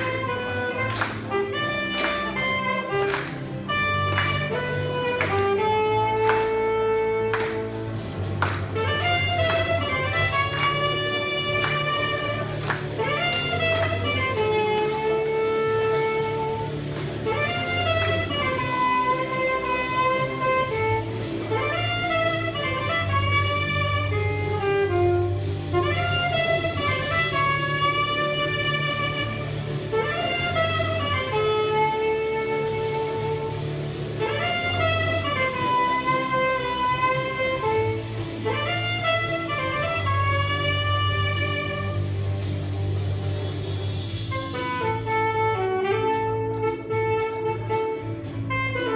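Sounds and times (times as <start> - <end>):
low bass line: 0.0 - 48.9.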